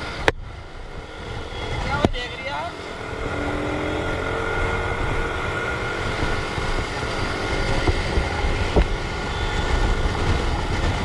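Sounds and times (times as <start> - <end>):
motorcycle engine and wind noise: 0.0 - 11.0.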